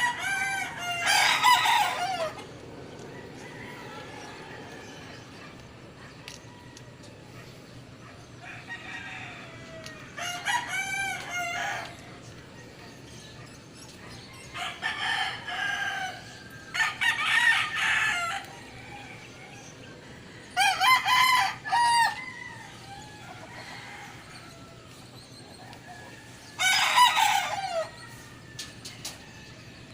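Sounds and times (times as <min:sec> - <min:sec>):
rooster crowing: 0:00.0 - 0:05.6, 0:08.4 - 0:12.0, 0:14.4 - 0:19.7, 0:20.4 - 0:29.9.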